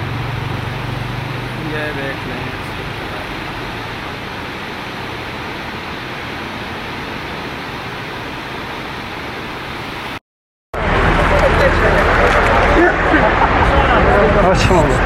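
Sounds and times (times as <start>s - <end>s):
flooded river rushing: 0.0s - 10.2s, 10.8s - 15.0s.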